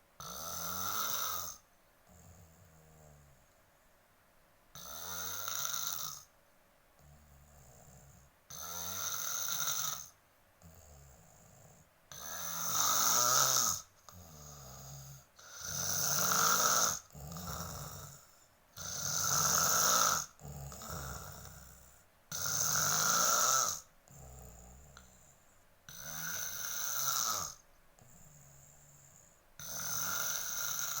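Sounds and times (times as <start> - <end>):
quiet breaths: 0.0 - 31.0
person snoring loudly: 0.2 - 3.4, 4.8 - 6.3, 7.0 - 25.2, 25.9 - 28.1, 29.6 - 31.0.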